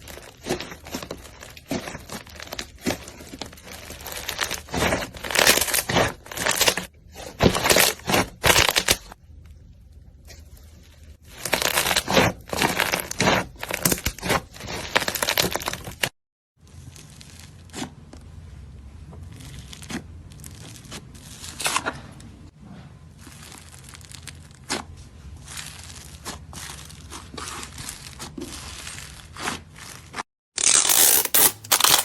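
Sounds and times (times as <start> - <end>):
slime crackling and tearing: 0.0 - 9.2, 11.3 - 16.1, 16.7 - 17.9, 19.2 - 21.9, 23.2 - 32.0.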